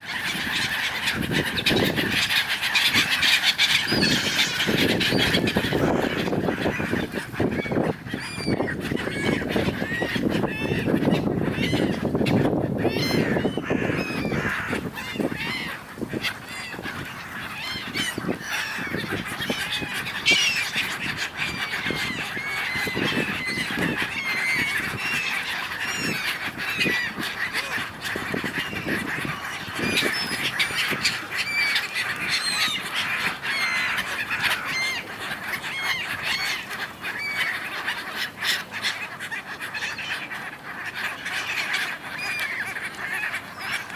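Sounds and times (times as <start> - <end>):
gulls squabbling: 0.0 - 43.9.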